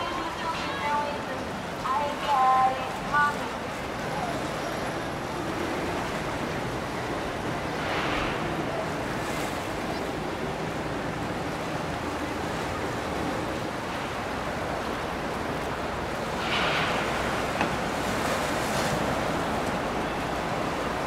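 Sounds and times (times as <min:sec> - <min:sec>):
water splashing in boat wake: 0:00.0 - 0:21.0.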